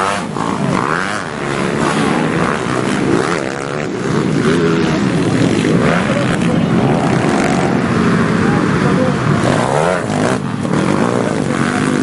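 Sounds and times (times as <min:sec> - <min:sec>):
motorbike engines revving: 0:00.0 - 0:12.0.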